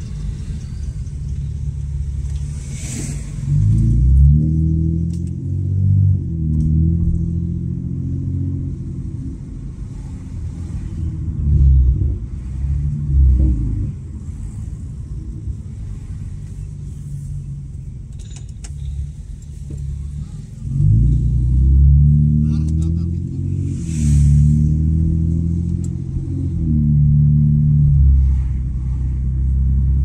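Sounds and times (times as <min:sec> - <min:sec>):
loud car exhaust droning: 0:00.0 - 0:30.0.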